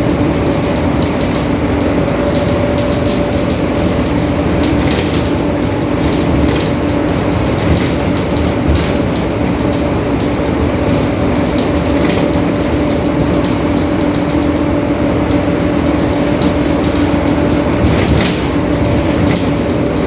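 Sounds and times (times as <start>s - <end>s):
body rattles and knocks: 0.0s - 20.0s
bus diesel engine droning: 0.0s - 20.0s.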